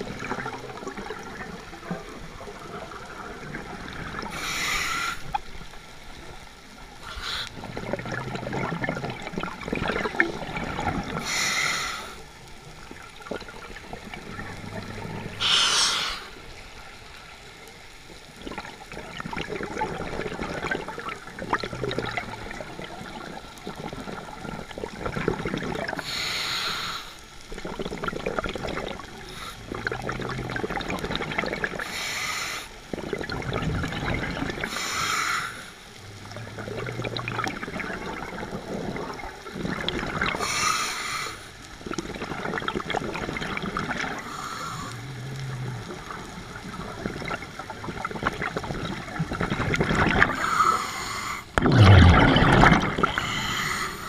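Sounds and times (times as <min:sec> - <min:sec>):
exhaled bubbles rushing: 0:00.0 - 0:04.4, 0:06.3 - 0:11.4, 0:12.5 - 0:16.5, 0:18.2 - 0:26.0, 0:27.4 - 0:31.9, 0:32.9 - 0:34.8, 0:36.0 - 0:40.6, 0:41.7 - 0:50.6, 0:51.5 - 0:54.0
rumbling water noise: 0:00.0 - 0:54.0.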